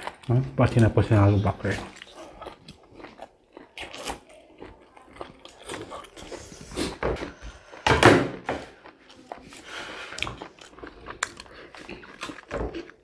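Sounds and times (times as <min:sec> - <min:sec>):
chewing mouth sounds: 0:00.0 - 0:07.8, 0:08.6 - 0:13.0.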